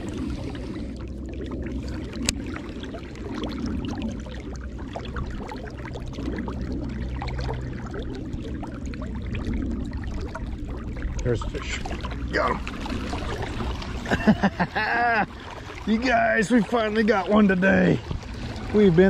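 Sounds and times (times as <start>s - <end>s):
river water flowing and lapping: 0.0s - 19.0s.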